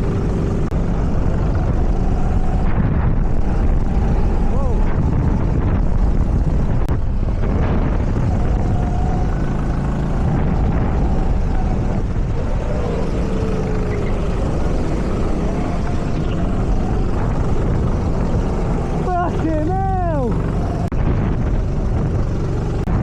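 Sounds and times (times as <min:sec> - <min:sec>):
go-kart engine droning: 0:00.0 - 0:23.0.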